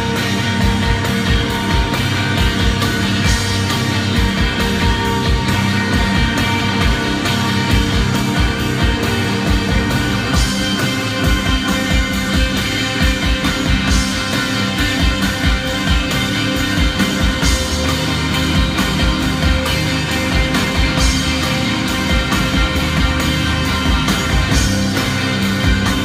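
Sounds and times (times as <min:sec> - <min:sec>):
electric guitars: 0:00.0 - 0:26.0
fast drum beat: 0:00.0 - 0:26.0.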